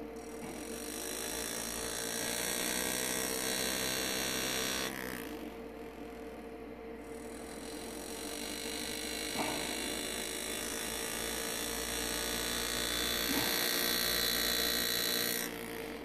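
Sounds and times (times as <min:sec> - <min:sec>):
air graver buzzing: 0:00.0 - 0:16.0.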